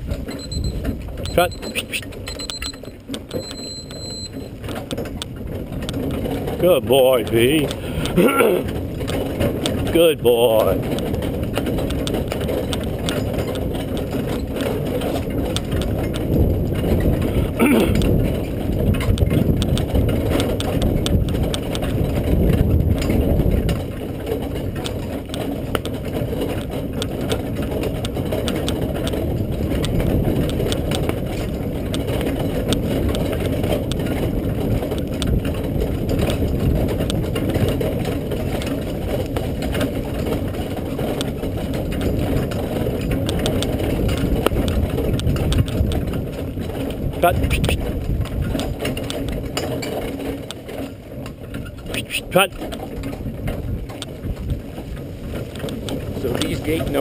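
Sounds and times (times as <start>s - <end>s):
carriage rolling on sandy trail: 0.0s - 57.0s
horse trotting: 0.0s - 57.0s
vehicle rattling: 0.0s - 57.0s.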